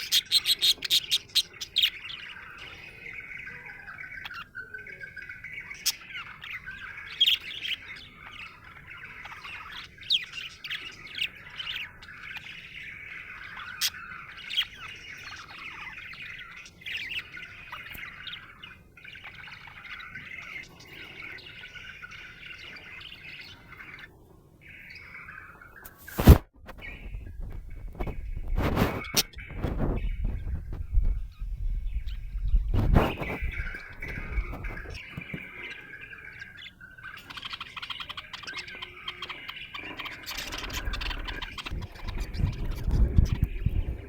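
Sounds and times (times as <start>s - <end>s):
budgerigar warbling and chattering: 0.0s - 44.0s.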